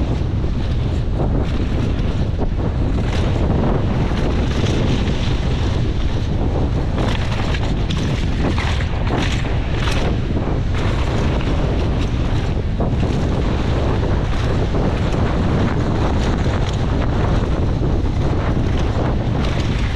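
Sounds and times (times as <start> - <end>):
bike clattering over bumps: 0.0 - 19.9
tyres on loose dirt: 0.0 - 19.9
wind rushing over microphone: 0.0 - 19.9.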